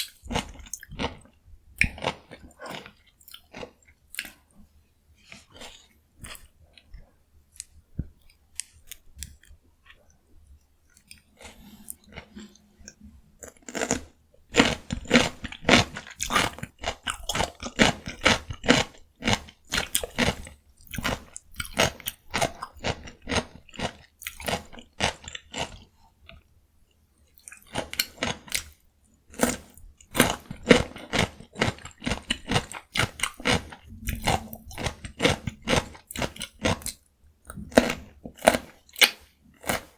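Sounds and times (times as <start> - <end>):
soft chewing clicks: 0.0 - 4.5, 5.2 - 39.9.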